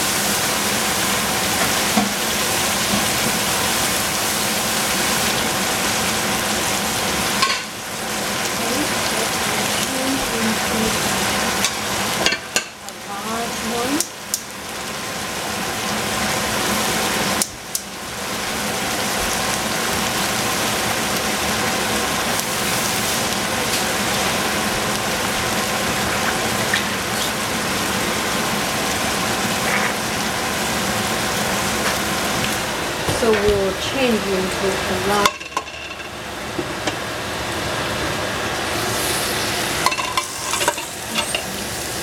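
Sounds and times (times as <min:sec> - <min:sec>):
meat sizzling in saucepan: 0:00.0 - 0:42.0.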